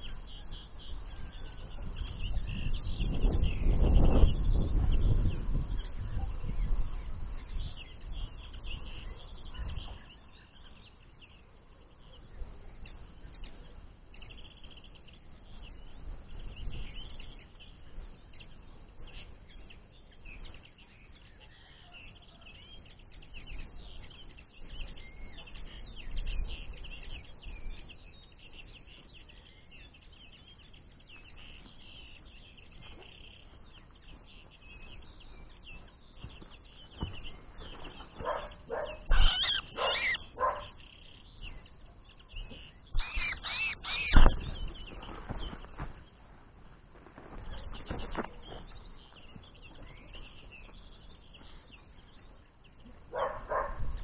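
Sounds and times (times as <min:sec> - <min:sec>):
small songbirds twittering: 0:00.0 - 0:54.0.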